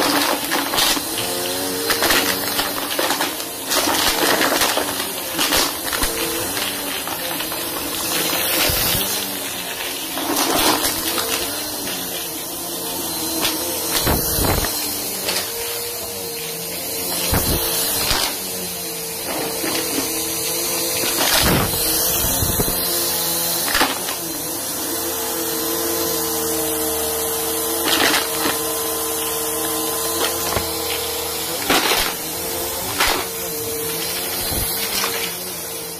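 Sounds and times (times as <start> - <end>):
debris crunching and rattling: 0.0 - 18.4, 19.2 - 24.4, 26.2 - 35.7
vacuum cleaner running: 0.0 - 35.9.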